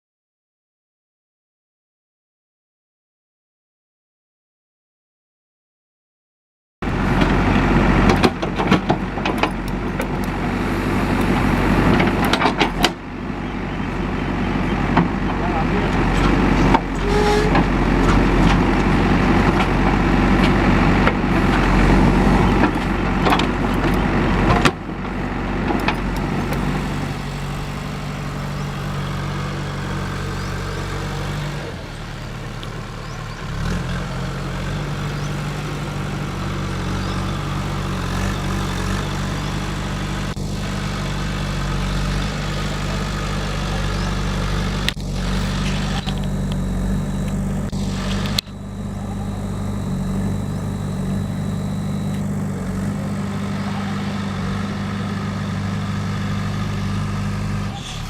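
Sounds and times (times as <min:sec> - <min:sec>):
heavy vehicle engine running: 0:06.8 - 0:58.0.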